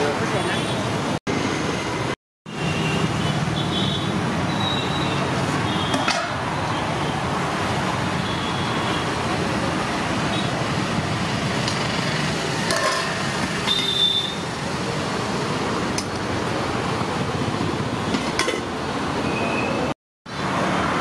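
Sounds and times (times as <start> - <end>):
roadside traffic noise: 0.0 - 21.0.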